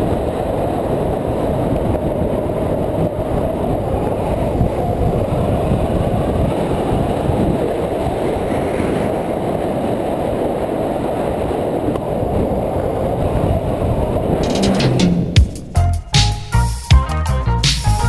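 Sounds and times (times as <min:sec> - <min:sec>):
longboard wheels rolling on asphalt: 0:00.0 - 0:14.5
wind rushing over microphone: 0:00.0 - 0:16.1.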